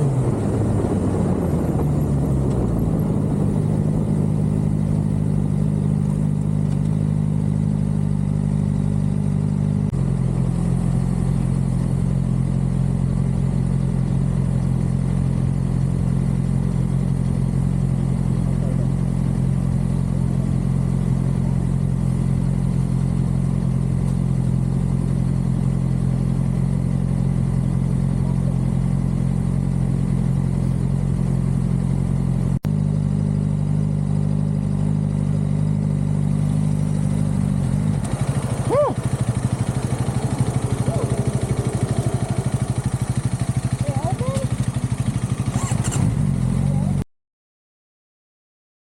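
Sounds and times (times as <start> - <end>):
motorcycle engine running: 0.0 - 47.1.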